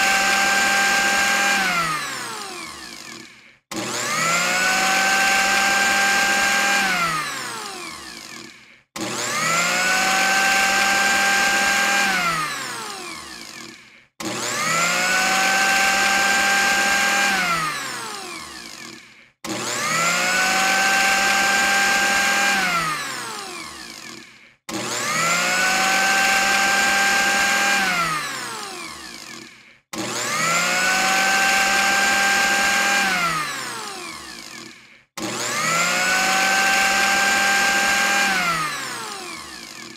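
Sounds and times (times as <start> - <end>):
blender motor whining: 0.0 - 39.9.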